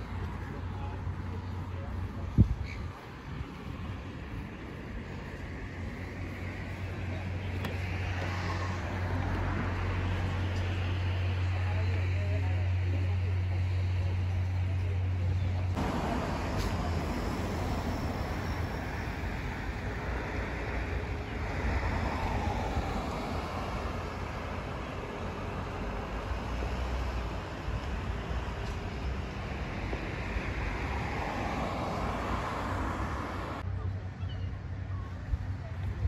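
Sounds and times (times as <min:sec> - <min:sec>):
road traffic rush: 0:00.0 - 0:36.0.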